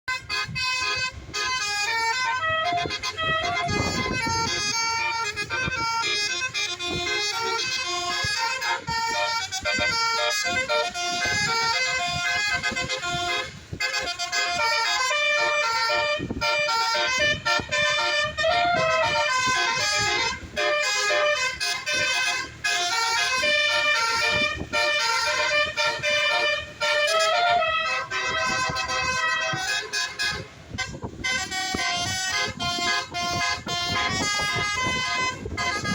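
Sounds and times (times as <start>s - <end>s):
bus musical air horn: 0.0s - 35.9s.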